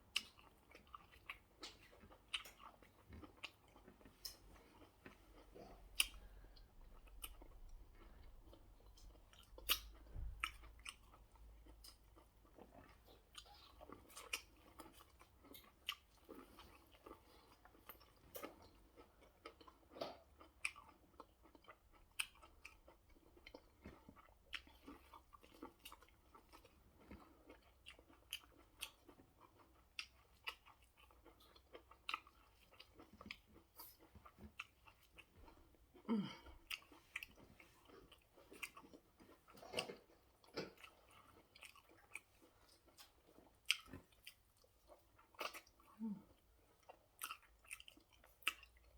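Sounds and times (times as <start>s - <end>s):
person chewing: 0.0s - 48.9s.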